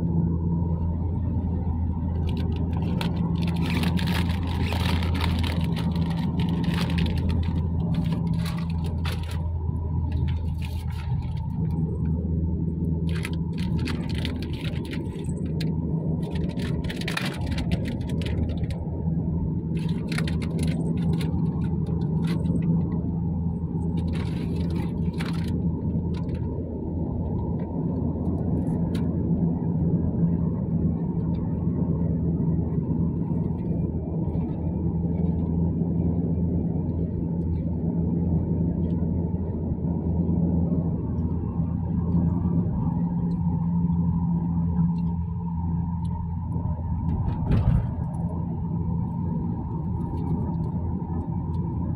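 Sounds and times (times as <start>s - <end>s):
car engine drone: 0.0s - 51.9s
road noise: 0.0s - 51.9s.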